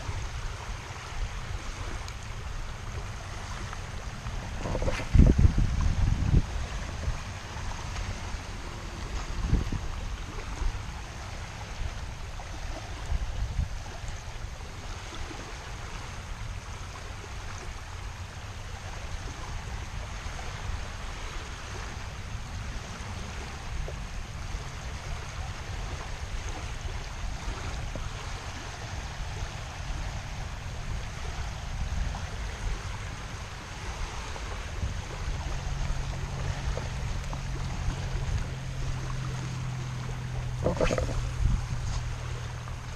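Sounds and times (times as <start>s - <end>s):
low steady hum: 0.0s - 42.9s
small waves lapping on shore: 0.0s - 42.9s
wind buffeting microphone: 0.0s - 42.9s.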